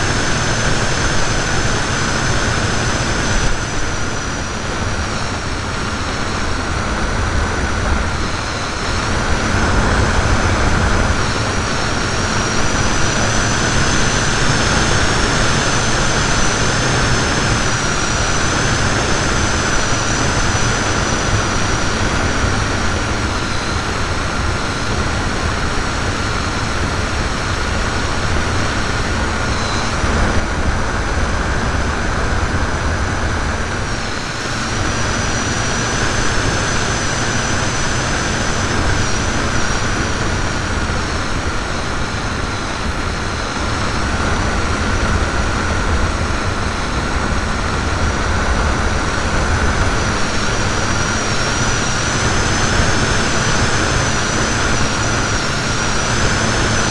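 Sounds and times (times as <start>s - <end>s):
electric plane motor whine: 0.0s - 56.9s
wind rush on microphone: 0.0s - 56.9s.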